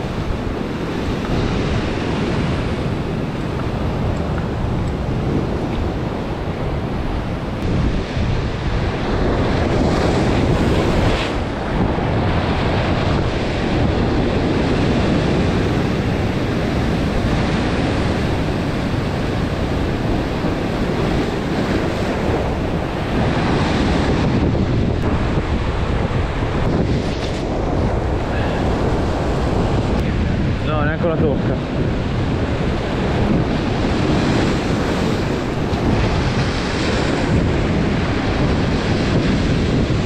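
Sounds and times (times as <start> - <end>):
sea surf breaking on rocks: 0.0 - 40.0
wind buffeting microphone: 0.0 - 40.0.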